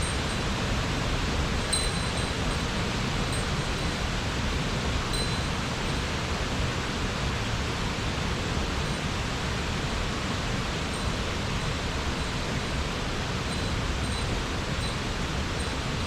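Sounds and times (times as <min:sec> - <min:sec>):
mountain stream flowing water: 0:00.0 - 0:16.0.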